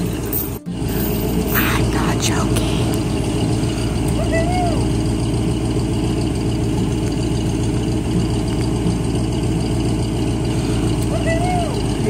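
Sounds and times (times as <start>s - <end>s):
motorhome engine idling: 0.0s - 12.0s.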